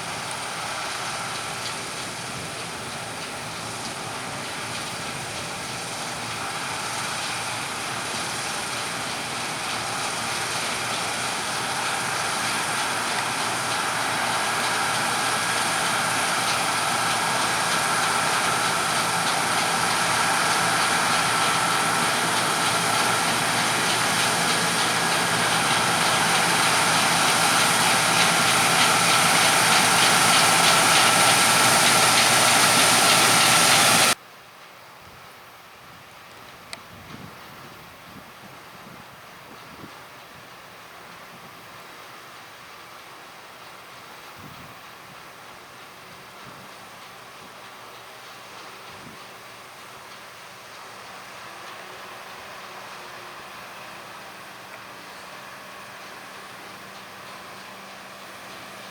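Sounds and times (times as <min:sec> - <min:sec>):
harvest machinery running: 0:00.0 - 0:34.2, 0:43.0 - 0:58.9.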